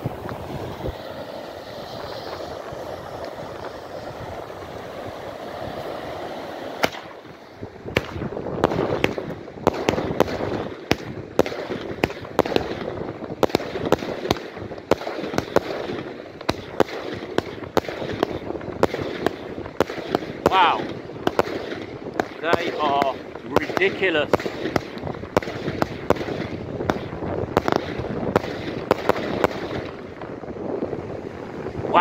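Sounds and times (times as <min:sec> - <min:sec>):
firework shell launches and bursts: 0:00.0 - 0:30.2
fireworks hissing: 0:00.0 - 0:32.0.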